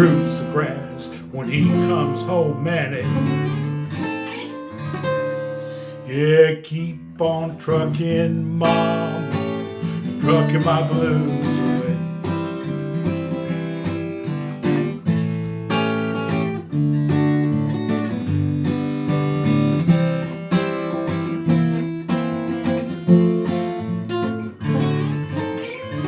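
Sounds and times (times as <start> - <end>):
blues acoustic guitar: 0.0 - 26.0.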